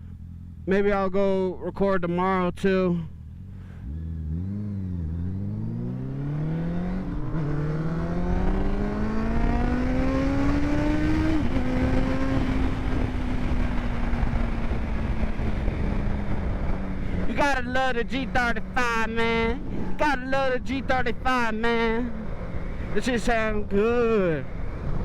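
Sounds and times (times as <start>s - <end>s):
engine accelerating hard: 3.2s - 23.8s.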